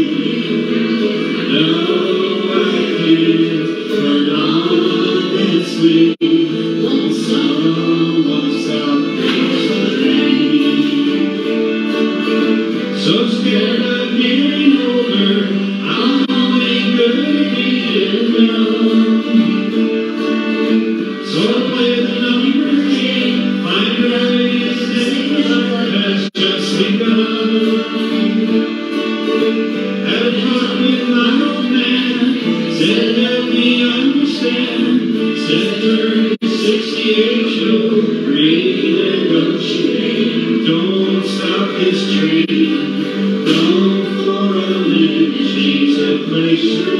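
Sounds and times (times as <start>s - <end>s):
person singing: 0.0s - 46.9s
strummed acoustic guitar: 0.0s - 46.9s.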